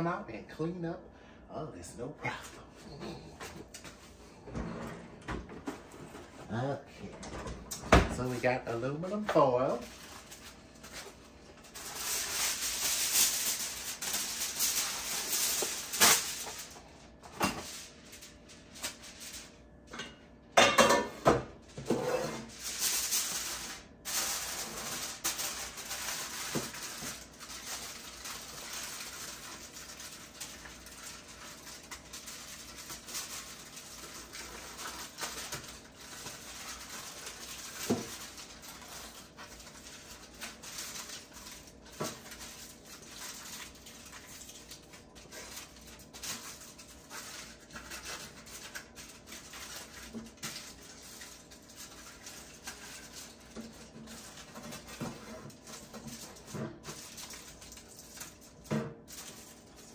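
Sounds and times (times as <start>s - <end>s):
aluminum foil crinkling: 8.1s - 19.8s, 22.4s - 59.9s.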